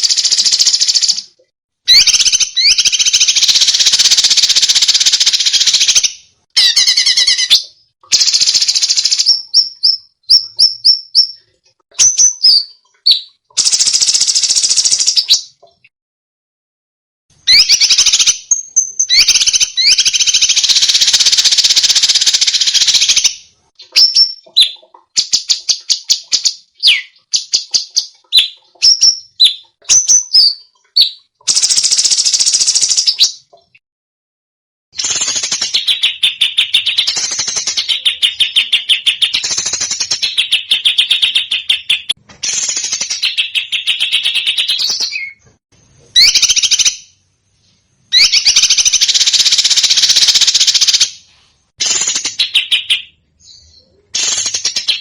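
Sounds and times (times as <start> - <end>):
bird chirps: 0.0 - 15.9, 17.4 - 33.8, 35.0 - 55.0
songbird rattling song: 0.0 - 15.9, 17.3 - 33.8, 35.0 - 55.0.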